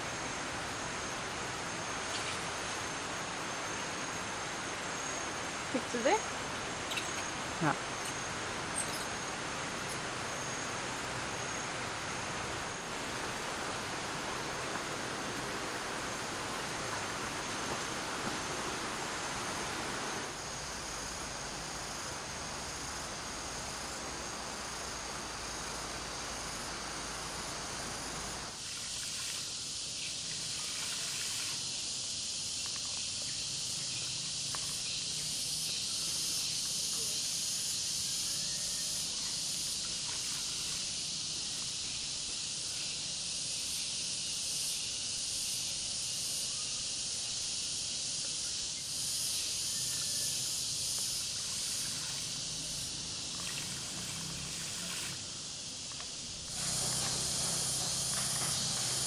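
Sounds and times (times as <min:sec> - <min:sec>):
cicadas droning: 0:00.0 - 0:59.0.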